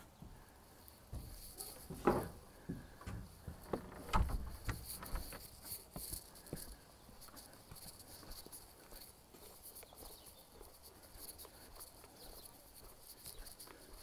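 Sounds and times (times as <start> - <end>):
footsteps on dirt and pine litter: 0.0 - 14.0.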